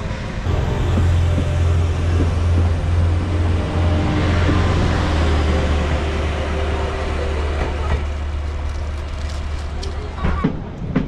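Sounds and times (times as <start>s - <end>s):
train running drone: 0.0s - 11.0s.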